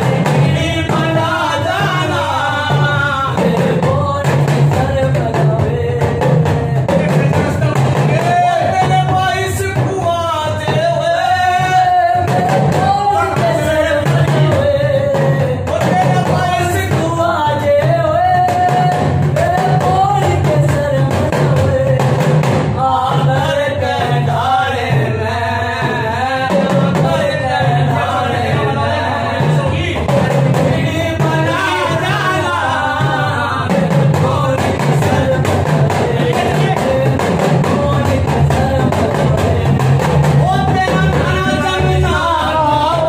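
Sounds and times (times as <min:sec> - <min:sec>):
devotional folk singing: 0:00.0 - 0:43.0
steady drum beat: 0:00.0 - 0:43.0.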